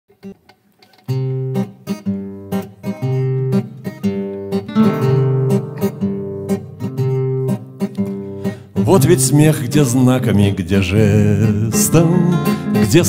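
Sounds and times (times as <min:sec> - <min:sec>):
acoustic guitars strumming: 0:00.2 - 0:13.0.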